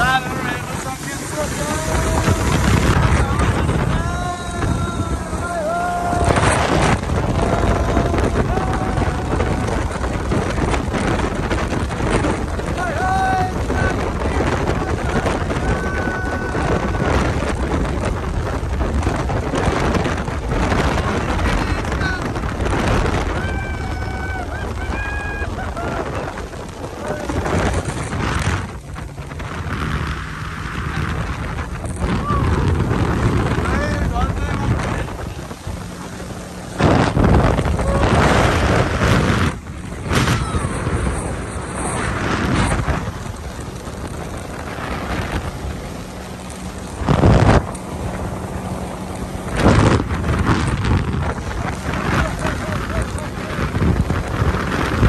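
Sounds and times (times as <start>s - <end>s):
jet ski engine: 0.0s - 55.0s
rushing spray: 0.0s - 55.0s
wind buffeting microphone: 0.0s - 55.0s.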